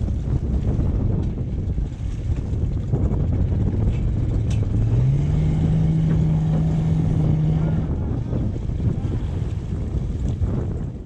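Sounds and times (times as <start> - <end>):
outboard motor running: 0.0 - 11.0
wind noise on microphone: 0.0 - 11.0.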